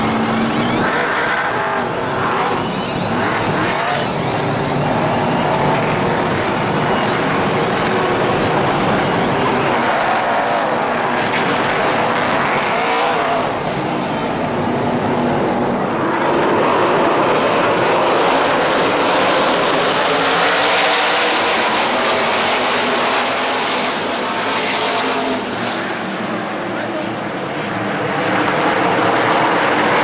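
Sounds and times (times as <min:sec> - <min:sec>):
race truck engines roaring: 0:00.0 - 0:30.0.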